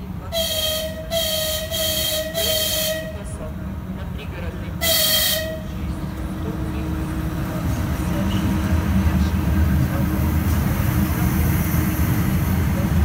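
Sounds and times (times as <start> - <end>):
locomotive rumbling past: 0.0 - 13.0.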